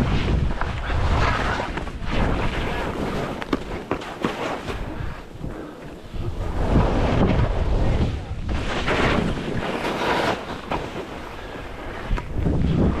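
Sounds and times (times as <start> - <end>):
wind buffeting microphone: 0.0 - 4.0, 4.6 - 13.0
skis scraping across snow: 0.0 - 13.0.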